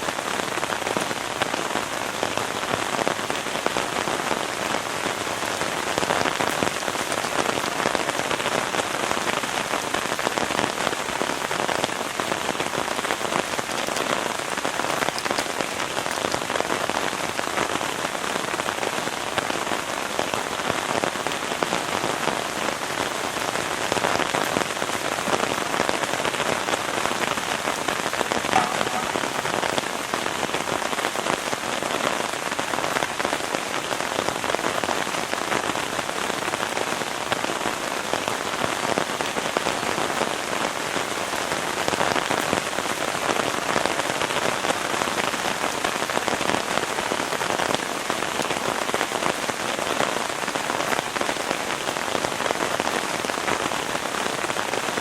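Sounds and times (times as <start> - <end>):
heavy rain patter: 0.0 - 55.0.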